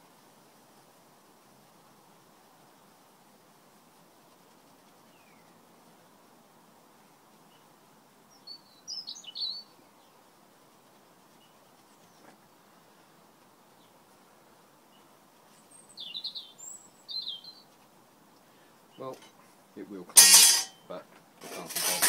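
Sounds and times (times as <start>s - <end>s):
faint background hiss: 0.0s - 22.0s
songbird chirping: 2.4s - 21.3s.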